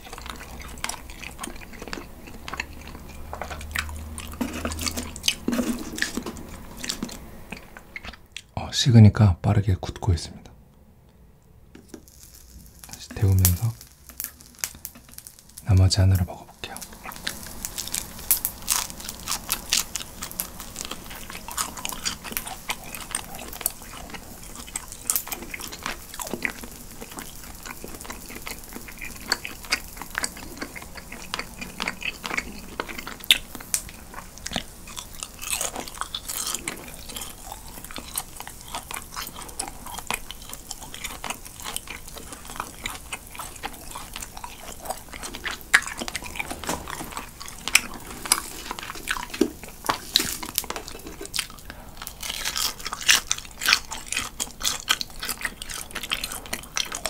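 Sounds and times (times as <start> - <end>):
close chewing with wet clicks: 0.0 - 8.5, 11.8 - 15.6, 16.6 - 57.0.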